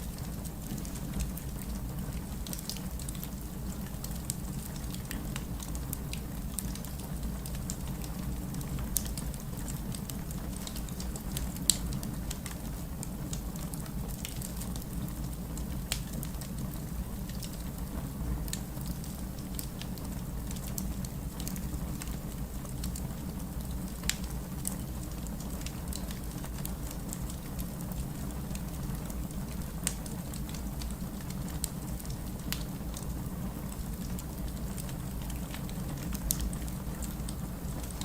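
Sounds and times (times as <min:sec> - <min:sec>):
rain falling: 0:00.0 - 0:38.0
wood fire crackling: 0:00.0 - 0:38.0.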